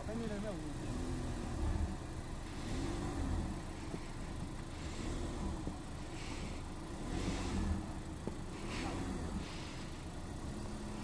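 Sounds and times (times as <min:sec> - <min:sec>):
car engines crawling: 0:00.0 - 0:11.0
steady low rumble: 0:00.0 - 0:11.0.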